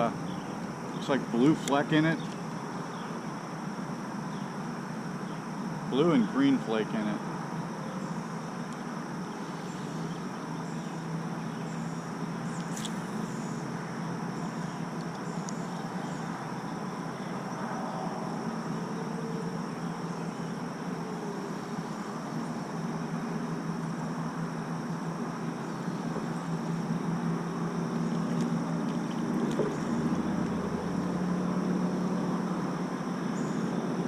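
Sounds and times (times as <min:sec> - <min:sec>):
constant low hum: 0:00.0 - 0:34.0
insects droning: 0:00.0 - 0:34.0.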